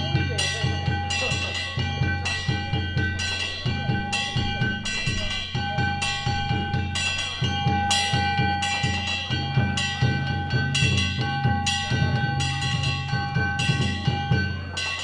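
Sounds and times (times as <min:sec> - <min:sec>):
hand-struck gongs clanging: 0:00.0 - 0:15.0
taiko drum beating: 0:00.0 - 0:15.0.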